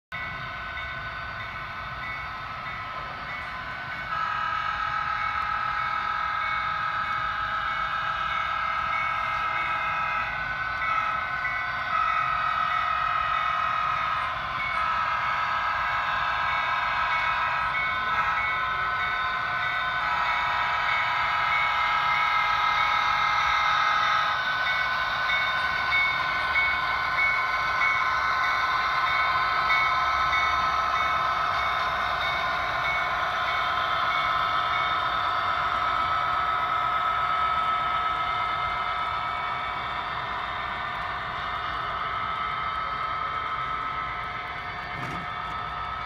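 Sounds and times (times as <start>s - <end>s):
model locomotives humming: 0.2s - 46.0s.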